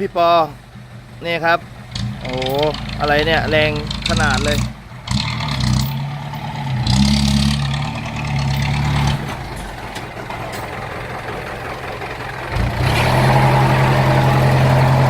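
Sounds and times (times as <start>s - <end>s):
heavy vehicle engine under load: 0.0s - 15.0s.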